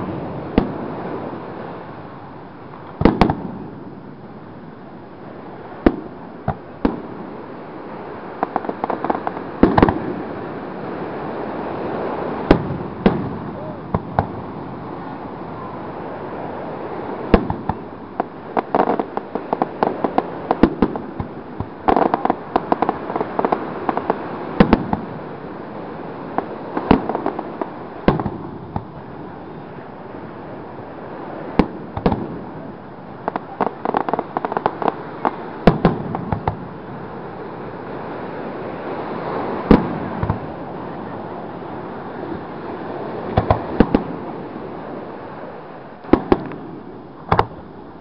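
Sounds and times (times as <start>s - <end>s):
fireworks bursting: 0.0s - 47.6s.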